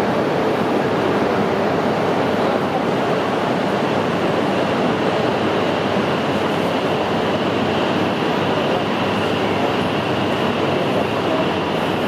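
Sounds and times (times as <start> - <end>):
steady train noise: 0.0 - 12.0.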